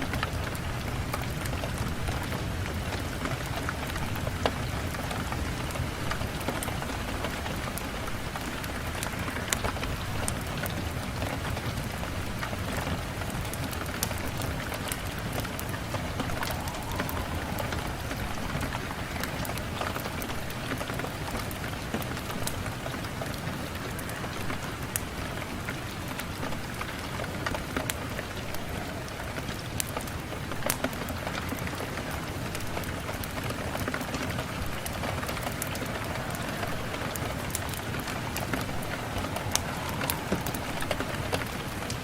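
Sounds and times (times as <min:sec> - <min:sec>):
rain on a window pane: 0:00.0 - 0:42.0.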